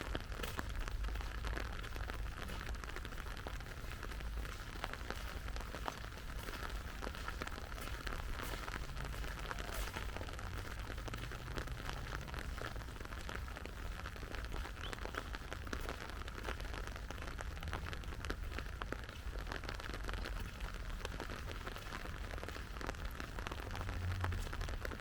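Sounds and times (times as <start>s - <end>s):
rain drops ticking: 0.0s - 25.0s.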